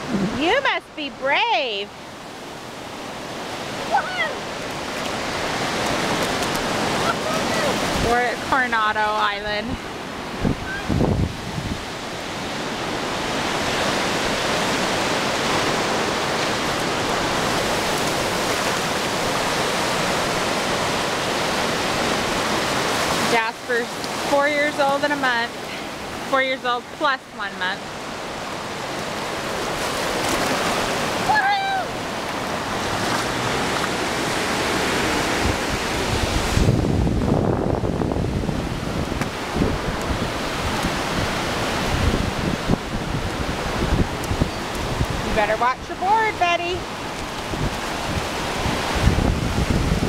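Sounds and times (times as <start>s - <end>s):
ocean surf breaking: 0.0s - 50.0s
wind buffeting microphone: 2.8s - 26.3s, 27.9s - 50.0s.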